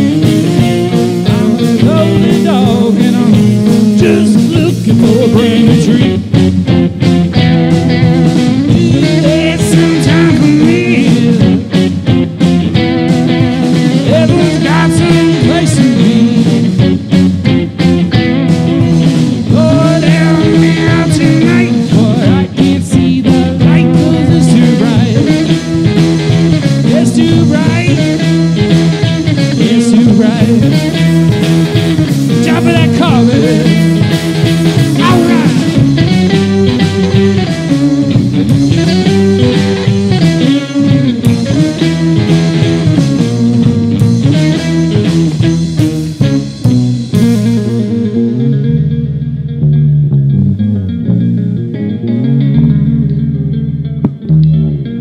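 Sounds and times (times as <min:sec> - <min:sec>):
rock band playing: 0:00.0 - 0:55.0
wavering electric guitar notes: 0:00.0 - 0:55.0.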